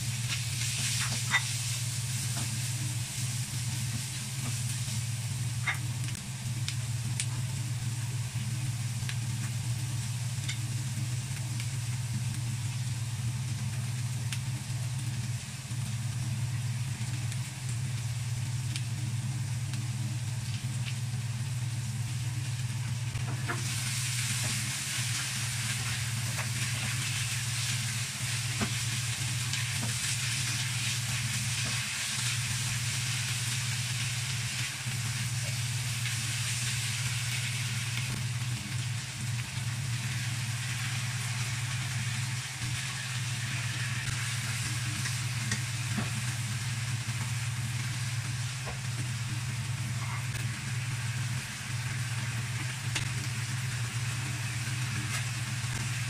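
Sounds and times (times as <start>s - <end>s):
meat sizzling in a wok: 0.0s - 56.0s
steady low hum: 0.0s - 56.0s.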